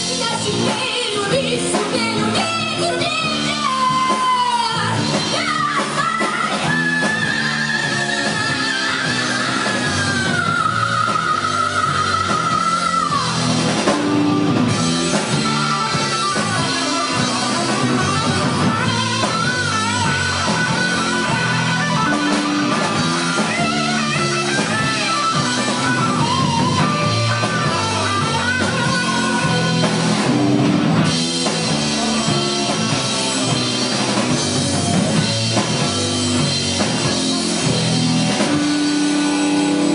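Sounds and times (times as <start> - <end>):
lead guitar melody: 0.0 - 39.9
live rock band: 0.0 - 39.9.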